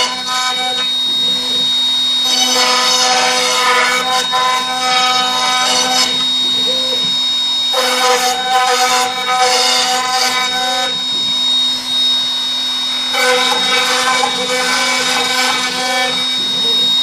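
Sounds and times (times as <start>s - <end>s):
machine tones changing pitch: 0.0s - 17.0s
milling machine routing wood: 0.0s - 17.0s.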